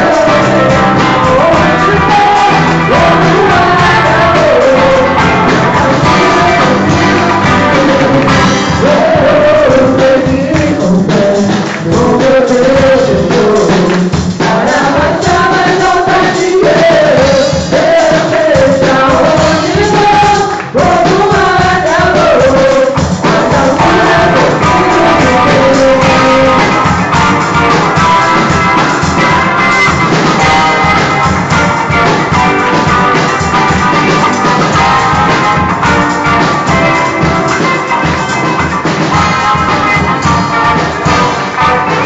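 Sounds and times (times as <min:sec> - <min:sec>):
drum hits: 0:00.0 - 0:42.0
person singing: 0:00.0 - 0:42.0
rock band playing: 0:00.0 - 0:42.0.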